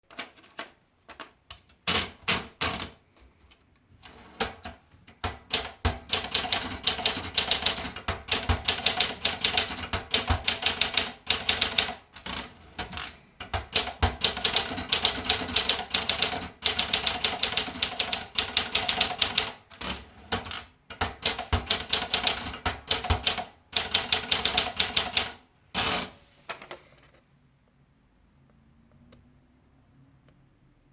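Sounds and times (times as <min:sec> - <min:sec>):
manual typewriter typing: 0:00.0 - 0:03.2, 0:04.0 - 0:26.2.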